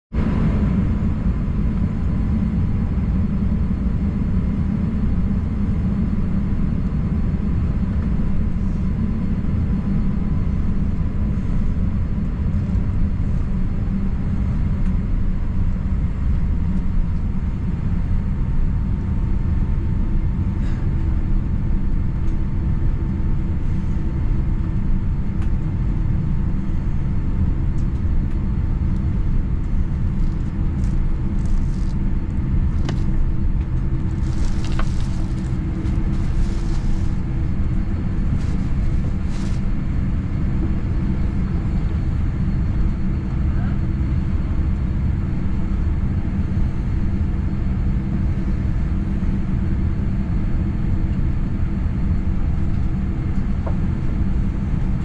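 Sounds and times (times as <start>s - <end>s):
airplane cabin rumble: 0.1s - 55.0s
low hum: 0.2s - 49.4s.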